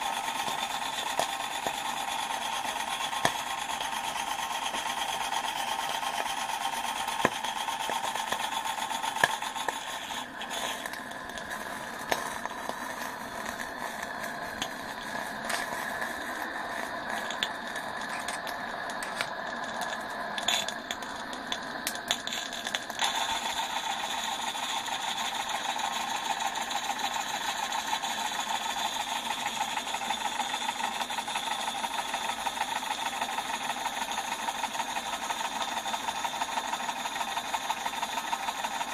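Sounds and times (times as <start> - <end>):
fast steam exhaust beats: 0.0 - 33.7.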